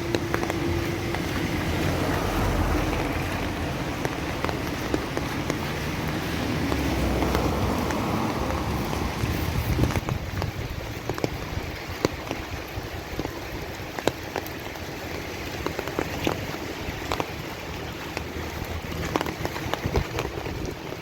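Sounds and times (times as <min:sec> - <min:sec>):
raindrops ticking: 0:00.0 - 0:21.0
steady rain hiss: 0:00.0 - 0:21.0.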